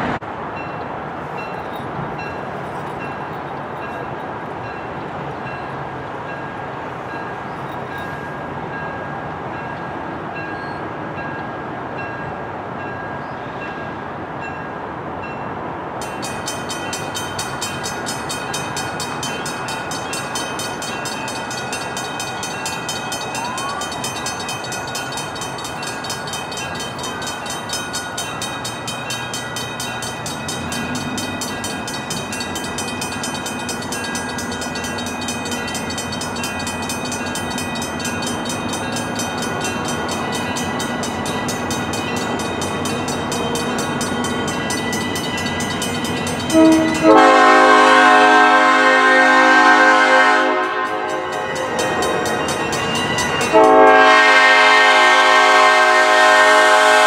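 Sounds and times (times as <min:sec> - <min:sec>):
train rumble and hiss: 0:00.0 - 0:57.0.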